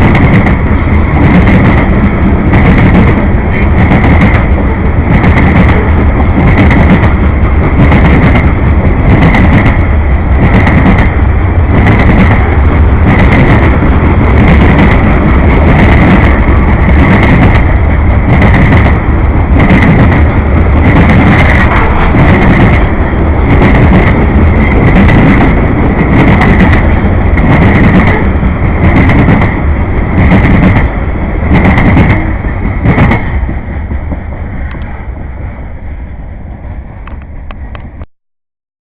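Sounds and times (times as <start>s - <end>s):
train wheels clacking on track: 0.0s - 35.2s
freight train rumble: 0.0s - 38.1s.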